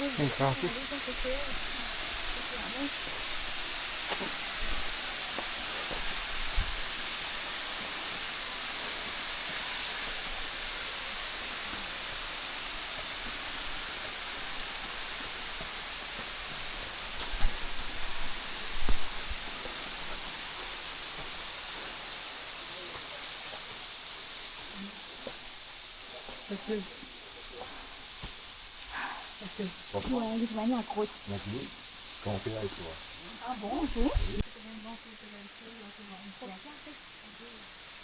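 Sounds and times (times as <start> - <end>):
waterfall rushing into pool: 0.0 - 38.0.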